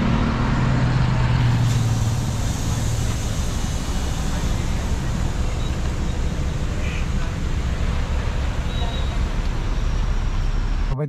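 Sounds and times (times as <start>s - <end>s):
car engine humming: 0.0s - 11.0s
road traffic noise: 0.0s - 11.0s.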